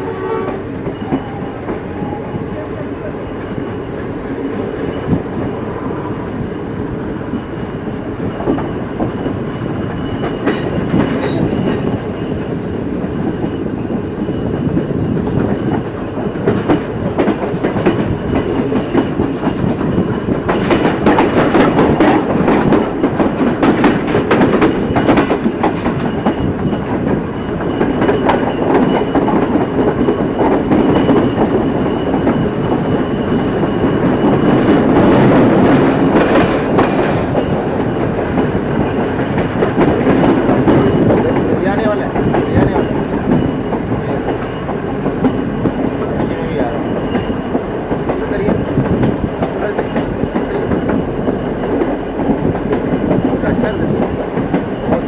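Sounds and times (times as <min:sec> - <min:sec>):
train rumble: 0:00.0 - 0:55.0
train wheels clacking: 0:00.0 - 0:55.0.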